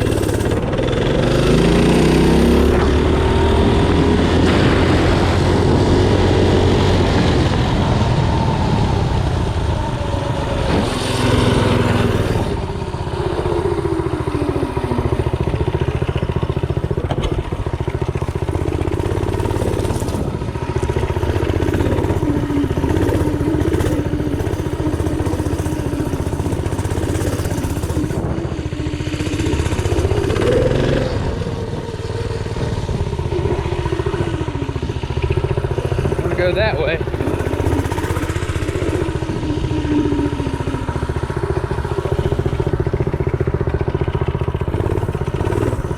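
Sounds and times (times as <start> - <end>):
mini bike engine running: 0.0 - 45.9.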